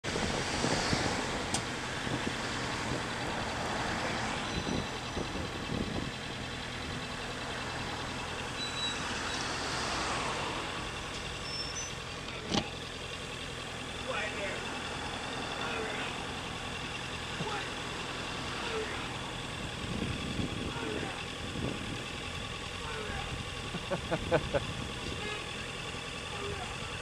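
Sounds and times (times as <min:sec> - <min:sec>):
motorcycle engine hum: 0:00.0 - 0:27.0
road and wind noise: 0:00.0 - 0:27.0.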